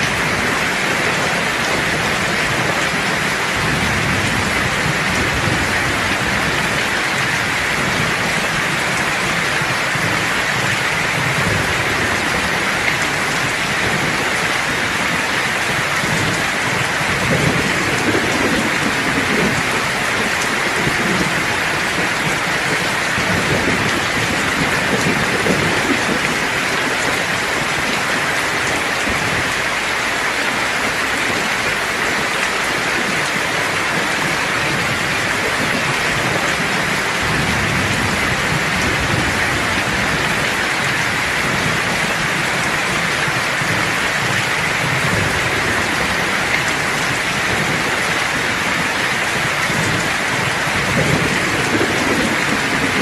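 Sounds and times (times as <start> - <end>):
heavy rain: 0.0 - 53.0
rolling thunder: 0.0 - 53.0.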